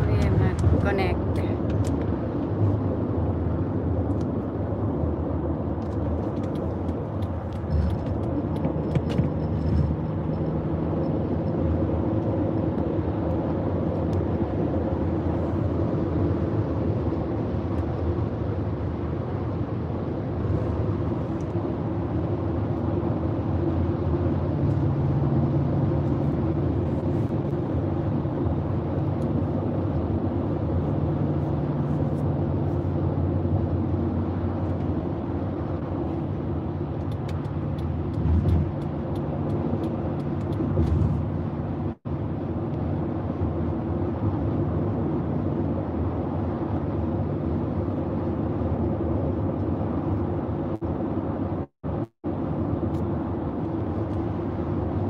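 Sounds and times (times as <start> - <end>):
engine hum in car cabin: 0.0 - 55.0.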